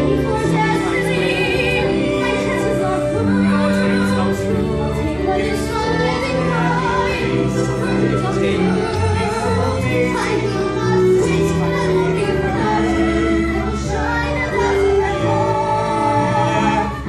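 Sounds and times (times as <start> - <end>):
instrumental accompaniment: 0.0 - 17.0
men and women singing together: 0.0 - 17.0.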